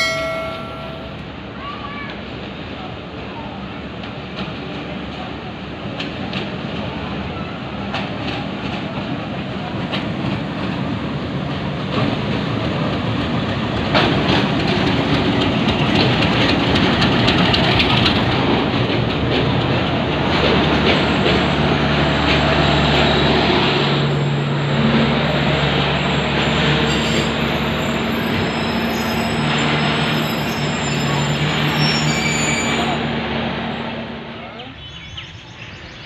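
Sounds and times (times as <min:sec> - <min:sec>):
train passing with rumble and clatter: 0:00.0 - 0:36.0.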